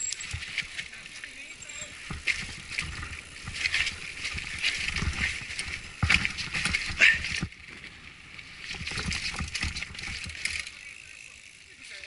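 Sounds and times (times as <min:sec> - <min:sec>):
mountain bike rattling on rocks: 0:00.0 - 0:12.0.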